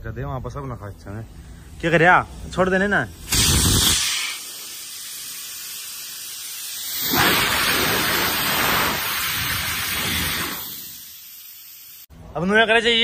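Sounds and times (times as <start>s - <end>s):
water and air hissing at valve: 1.0s - 12.1s.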